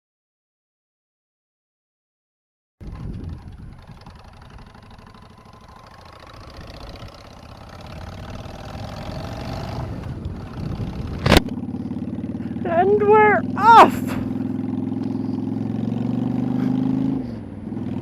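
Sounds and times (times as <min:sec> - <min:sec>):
motorcycle engine running: 0:02.8 - 0:18.0.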